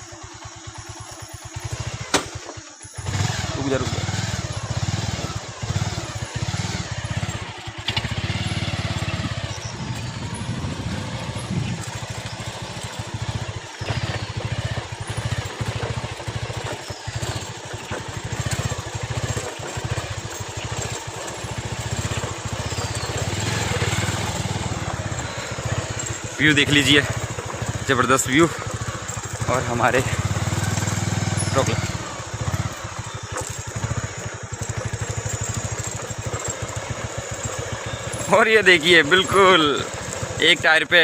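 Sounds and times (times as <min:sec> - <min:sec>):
motorcycle engine running: 0:00.0 - 0:41.0
rough off-road ride noise: 0:00.0 - 0:41.0.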